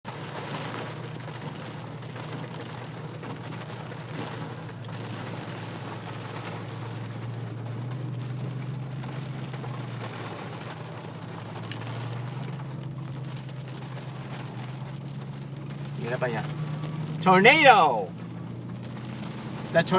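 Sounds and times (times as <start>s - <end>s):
car driving drone inside cabin: 0.0s - 19.9s.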